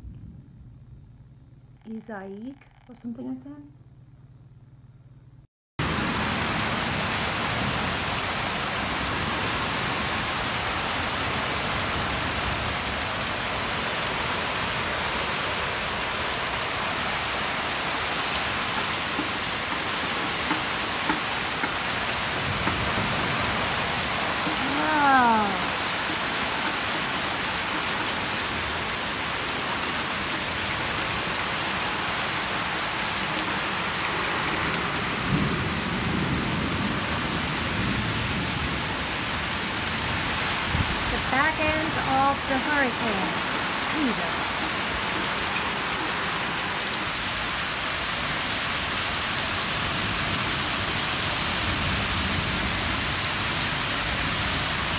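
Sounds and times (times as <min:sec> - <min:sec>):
heavy rain on wooden deck: 0:05.8 - 0:54.9.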